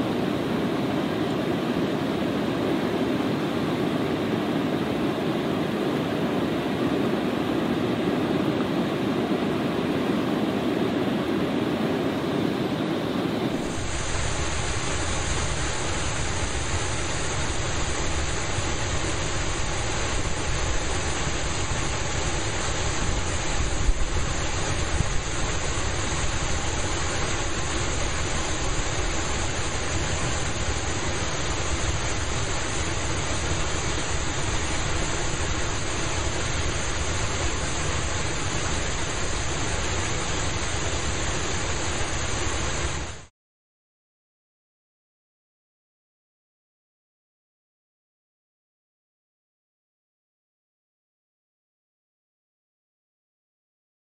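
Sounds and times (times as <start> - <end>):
rush of falling water: 0.0 - 43.3.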